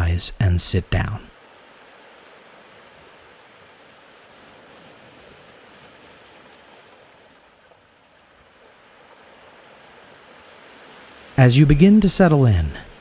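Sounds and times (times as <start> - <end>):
ocean surf: 0.0 - 13.0.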